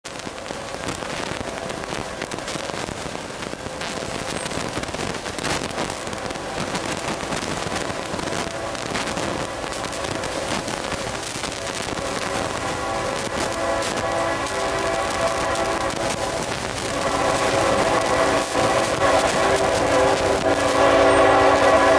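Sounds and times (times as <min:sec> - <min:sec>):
crackling hiss: 0:00.0 - 0:21.9
distant train horn: 0:00.1 - 0:21.9.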